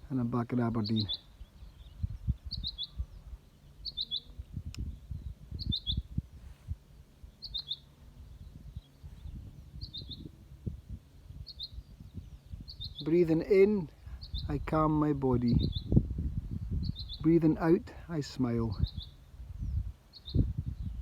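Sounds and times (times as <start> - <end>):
wind buffeting microphone: 0.8 - 21.0.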